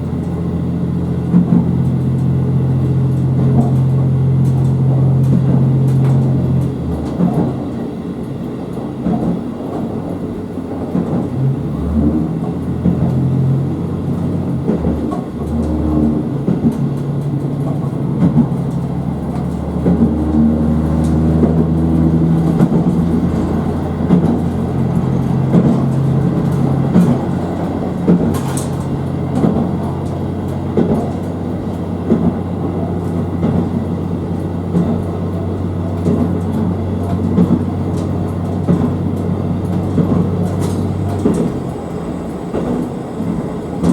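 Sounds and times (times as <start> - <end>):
diesel engine drone: 0.0 - 43.9
rail joint clicks: 0.0 - 43.9
train wheels rumbling: 0.0 - 43.9.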